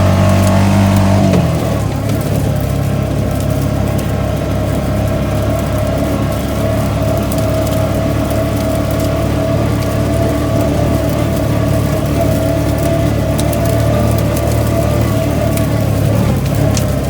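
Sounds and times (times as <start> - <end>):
atv engine droning: 0.0 - 17.0.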